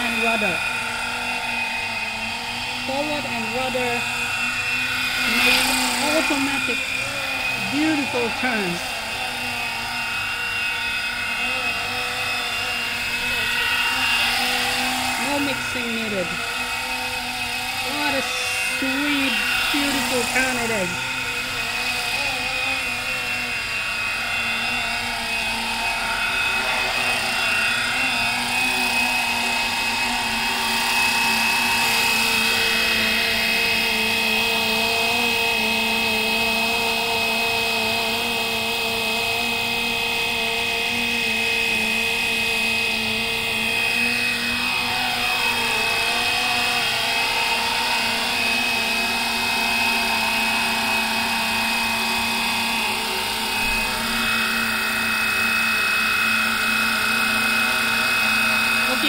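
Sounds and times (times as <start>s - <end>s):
model helicopter rotors whining: 0.0s - 59.0s.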